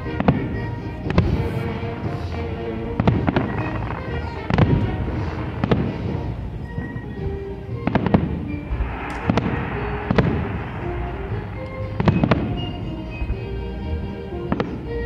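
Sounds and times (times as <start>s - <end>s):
fireworks booming: 0.0s - 15.0s
fireworks crackling hiss: 0.0s - 15.0s
music: 0.0s - 15.0s.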